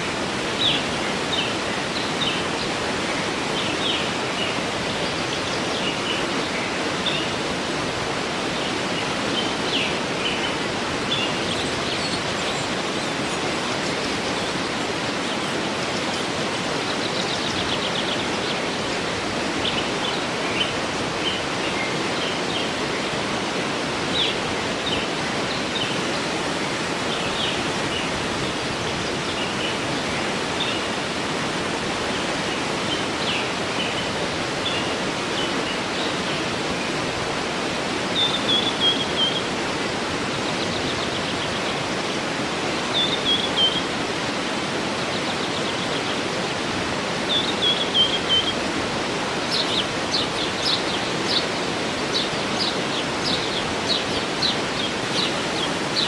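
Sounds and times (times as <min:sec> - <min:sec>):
small birds chirping: 0:00.0 - 0:23.2, 0:32.0 - 0:56.0
waterfall rushing: 0:00.0 - 0:56.0.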